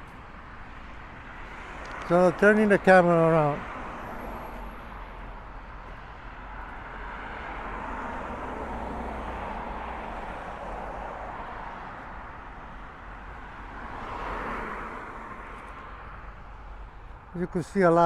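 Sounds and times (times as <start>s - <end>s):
passing cars: 0.0s - 18.0s.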